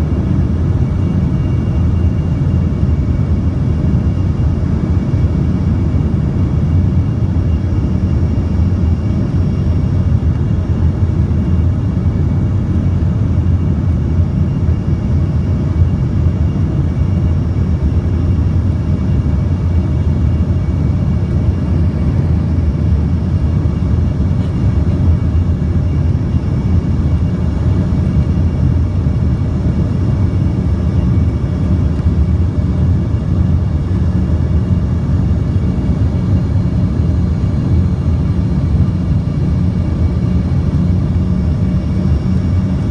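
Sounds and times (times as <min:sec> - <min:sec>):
aircraft engines and airflow: 0:00.0 - 0:42.9.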